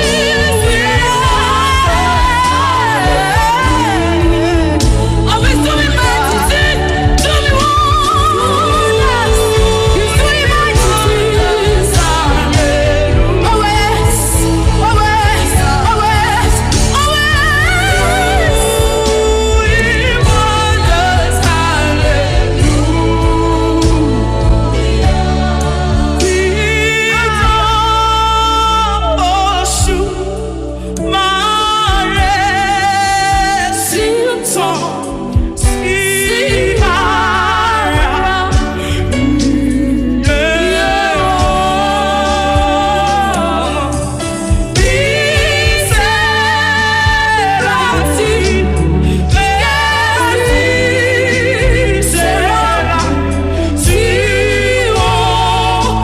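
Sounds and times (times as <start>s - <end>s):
band with bass and drums: 0.0s - 56.0s
person singing: 0.0s - 56.0s.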